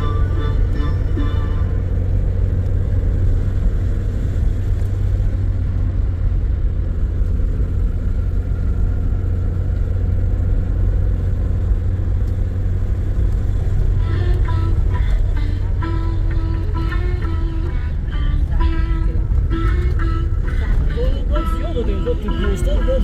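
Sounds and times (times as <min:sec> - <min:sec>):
vehicle engine and tyres rumbling: 0:00.0 - 0:23.0.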